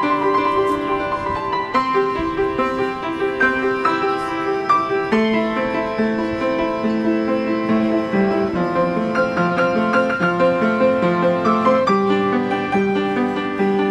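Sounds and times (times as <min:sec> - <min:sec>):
upright piano playing: 0:00.0 - 0:13.9.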